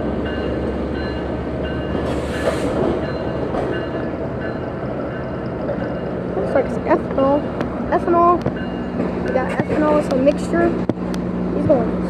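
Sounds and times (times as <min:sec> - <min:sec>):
freight train wheels clattering: 0:00.0 - 0:12.0.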